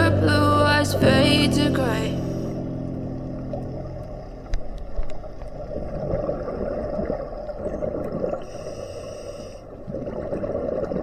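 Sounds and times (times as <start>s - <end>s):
muffled underwater bubbling: 0.0s - 11.0s.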